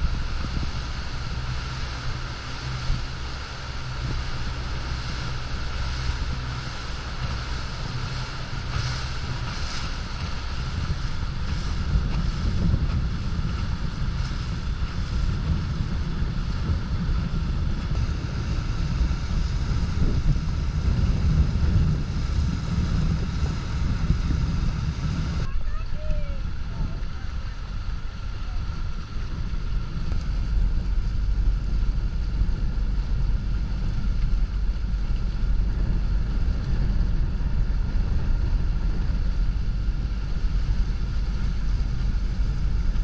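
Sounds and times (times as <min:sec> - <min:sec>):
outboard motor running: 0:00.0 - 0:43.0
water rushing past hull: 0:00.0 - 0:43.0
wind buffeting microphone: 0:00.0 - 0:43.0.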